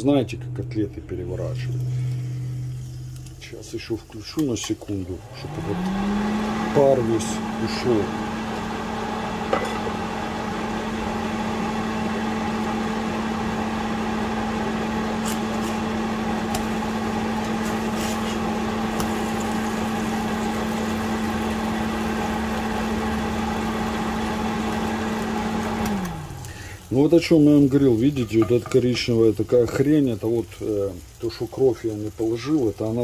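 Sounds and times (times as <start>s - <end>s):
exhaust fan humming: 0.0s - 33.0s.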